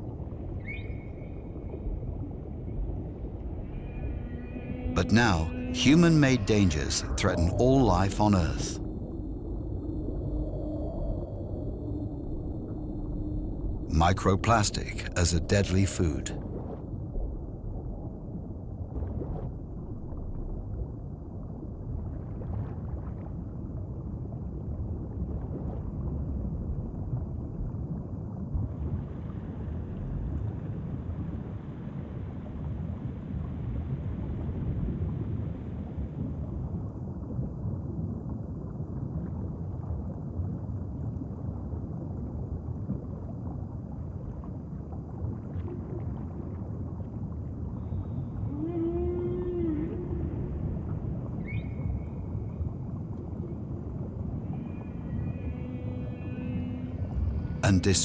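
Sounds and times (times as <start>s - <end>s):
underwater rumble: 0.0s - 58.0s.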